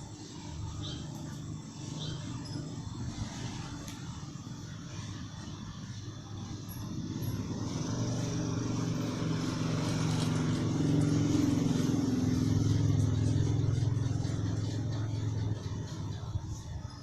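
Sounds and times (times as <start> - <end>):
vehicle engine passing by: 3.0 - 17.0.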